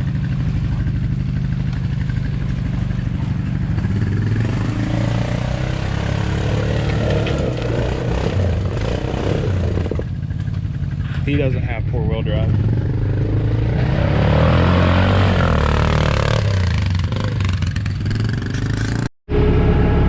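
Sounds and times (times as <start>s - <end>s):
four-wheeler engine revving: 0.0s - 20.0s.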